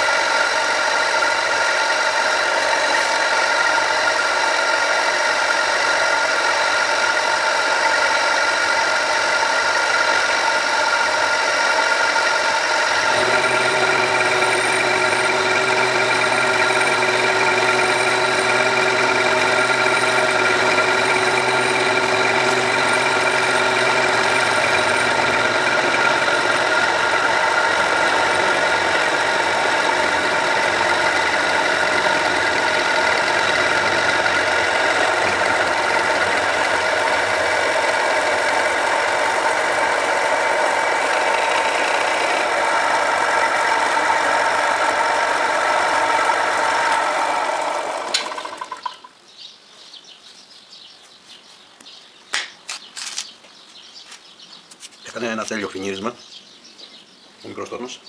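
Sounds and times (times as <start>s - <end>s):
metal lathe drone: 0.0s - 49.1s.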